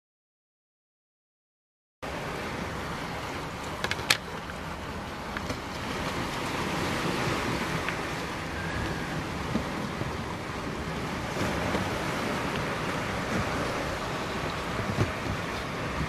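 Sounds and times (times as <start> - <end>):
sea surf: 2.0 - 16.0
wind: 2.0 - 16.0.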